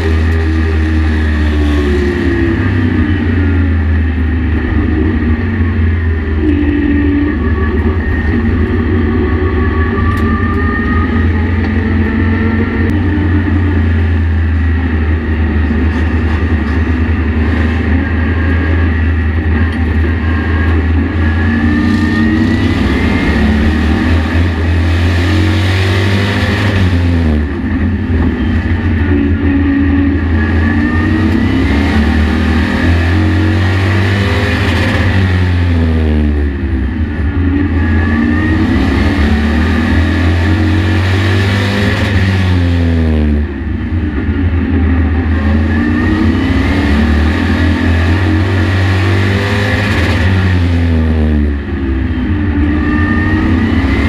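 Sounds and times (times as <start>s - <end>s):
truck engine droning: 0.0s - 54.0s.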